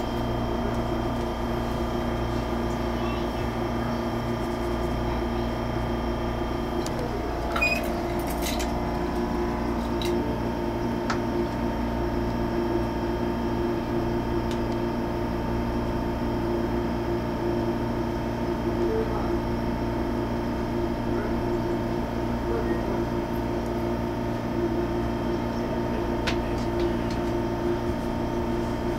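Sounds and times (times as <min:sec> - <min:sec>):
train electrical hum: 0:00.0 - 0:28.9
ventilation drone: 0:00.0 - 0:28.9.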